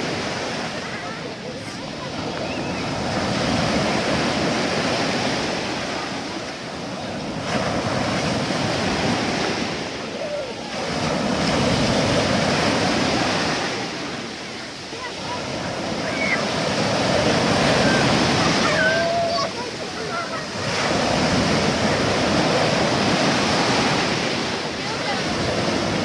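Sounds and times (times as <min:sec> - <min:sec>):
waves breaking on shore: 0:00.0 - 0:26.0.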